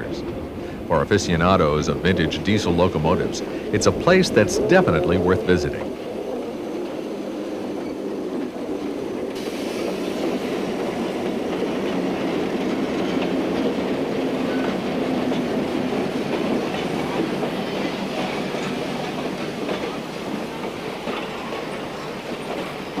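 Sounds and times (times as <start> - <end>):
train rumbling and rattling: 0.0 - 23.0.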